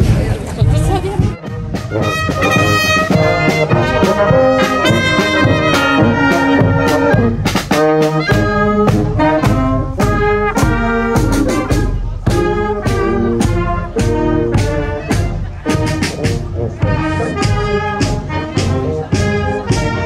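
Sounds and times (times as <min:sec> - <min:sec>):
steady drum beat: 0:00.0 - 0:20.0
brass band playing: 0:00.8 - 0:20.0.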